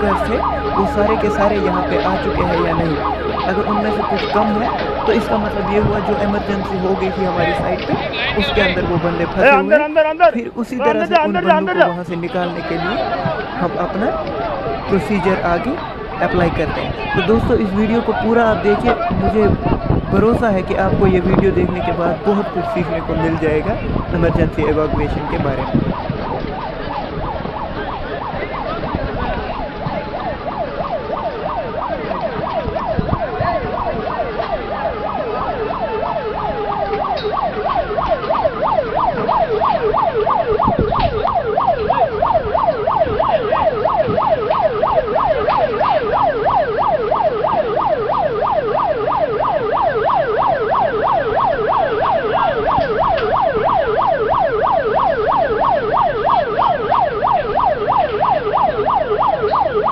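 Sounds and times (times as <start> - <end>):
emergency siren wailing: 0.0 - 59.9.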